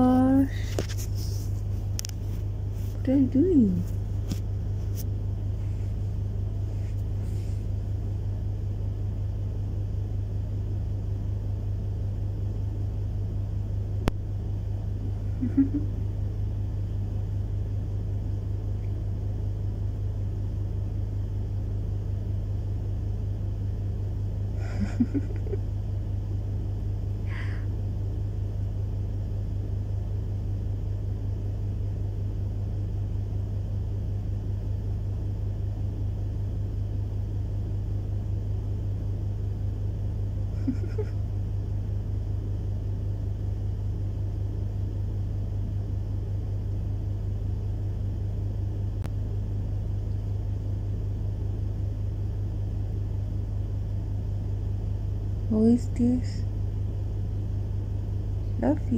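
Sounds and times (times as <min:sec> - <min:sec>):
low machine hum: 0:00.0 - 0:58.9.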